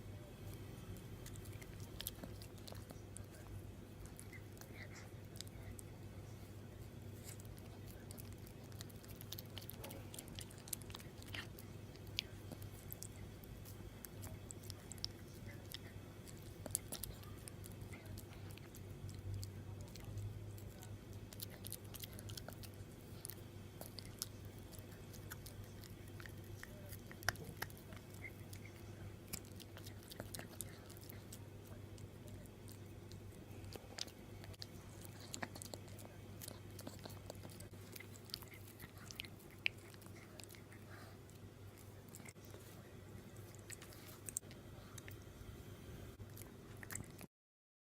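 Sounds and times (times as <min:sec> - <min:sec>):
puppy chewing: 0:00.2 - 0:47.3
teeth clicking and crunching: 0:00.6 - 0:06.0, 0:07.2 - 0:42.7, 0:46.2 - 0:47.3.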